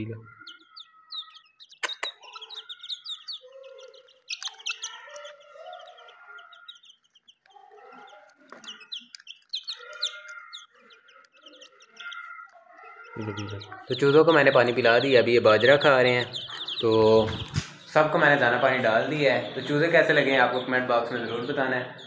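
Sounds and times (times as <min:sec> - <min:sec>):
chicks cheeping: 0:00.0 - 0:22.0.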